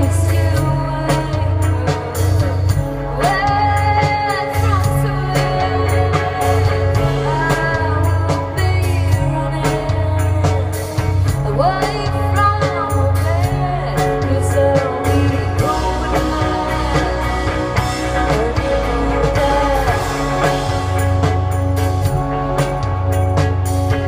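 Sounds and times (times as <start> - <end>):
woman singing: 0.0 - 21.2
held guitar chords: 0.0 - 24.0
pulsing bass line: 0.0 - 24.0.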